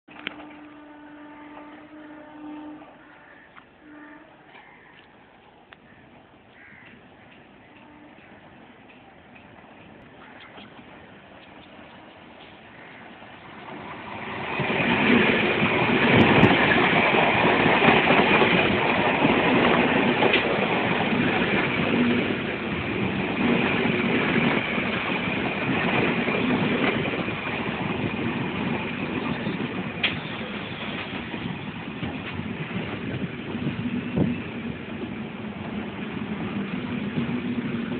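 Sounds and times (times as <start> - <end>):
electric train rattling rush: 0.1 - 37.9.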